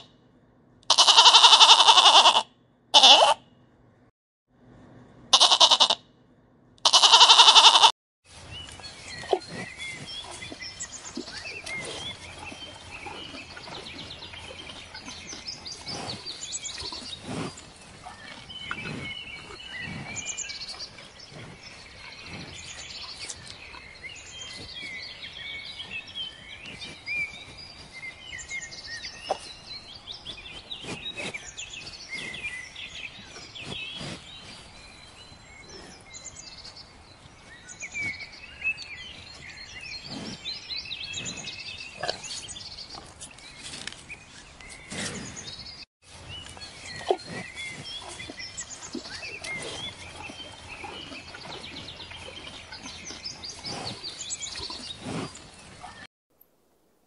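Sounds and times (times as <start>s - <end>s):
small birds chirping: 7.0s - 56.1s
cattle chewing grass: 8.3s - 56.0s.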